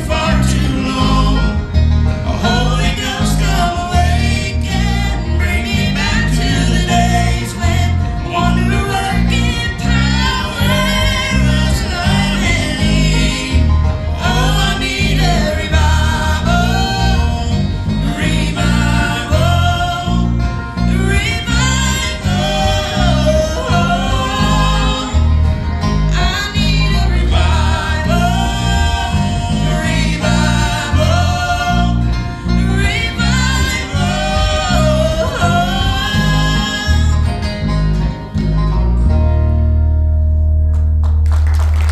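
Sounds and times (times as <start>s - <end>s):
group singing: 0.0s - 38.5s
guitar accompaniment: 0.0s - 41.9s
rhythmic bass line: 0.0s - 41.9s.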